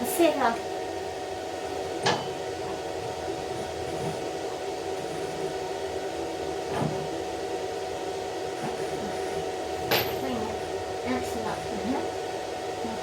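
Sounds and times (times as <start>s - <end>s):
welding machine hum and fan: 0.0s - 13.0s.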